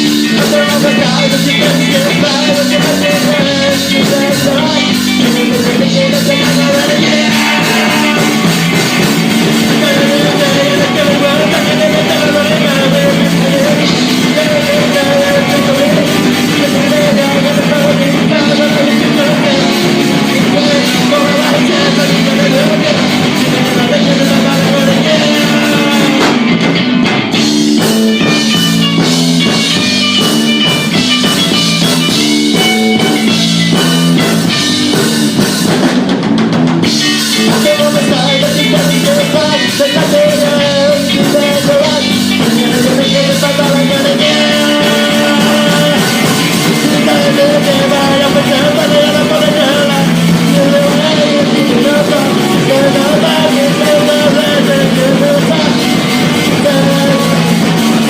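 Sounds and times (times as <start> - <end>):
rock song with singing: 0.0 - 58.0.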